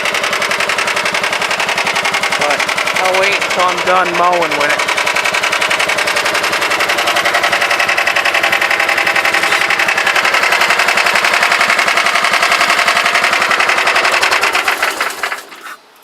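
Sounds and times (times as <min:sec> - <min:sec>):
lawn tractor engine idling: 0:00.0 - 0:16.0.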